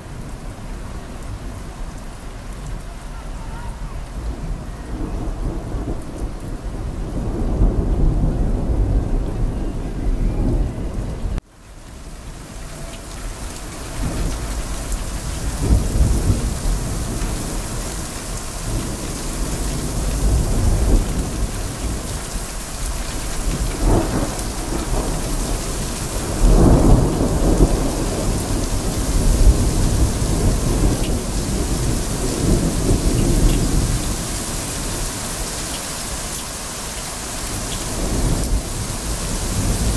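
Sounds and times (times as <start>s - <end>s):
heavy rain: 0.0s - 39.9s
rolling thunder: 3.7s - 11.4s, 12.7s - 39.9s.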